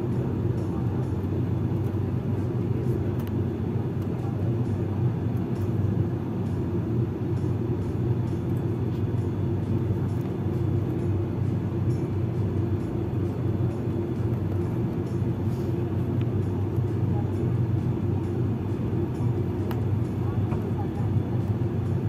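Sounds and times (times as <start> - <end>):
propeller drone: 0.0 - 22.0.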